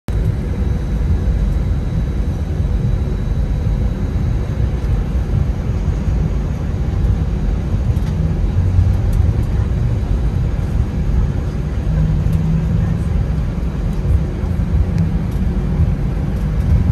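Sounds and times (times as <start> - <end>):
jet engines rumbling: 0.1 - 16.9.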